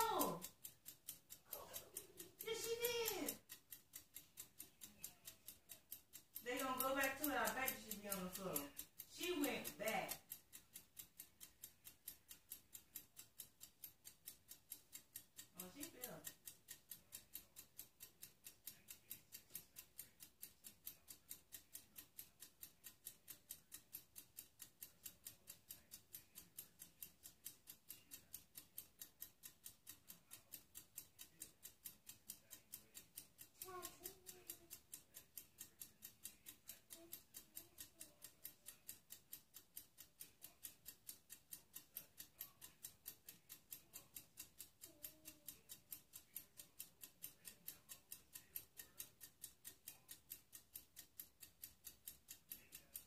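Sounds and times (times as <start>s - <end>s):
faint steady ticking: 0.0s - 53.0s.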